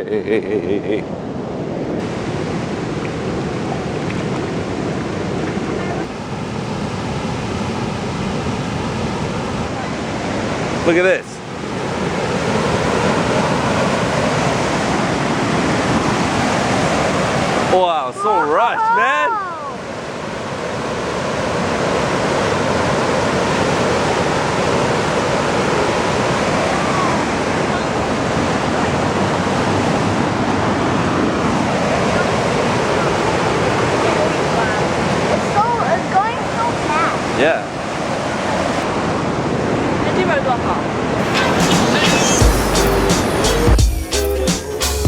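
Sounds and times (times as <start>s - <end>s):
wind: 0.0s - 44.8s
rushing water: 1.5s - 43.8s.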